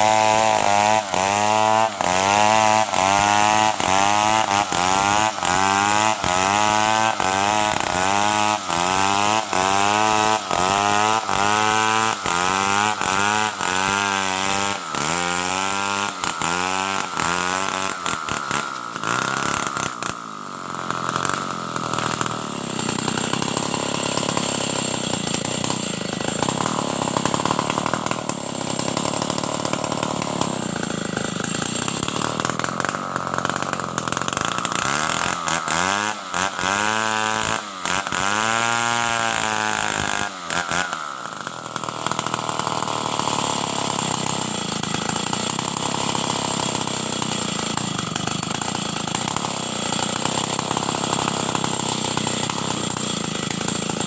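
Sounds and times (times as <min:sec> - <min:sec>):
chainsaw cutting timber: 0:00.0 - 0:54.0.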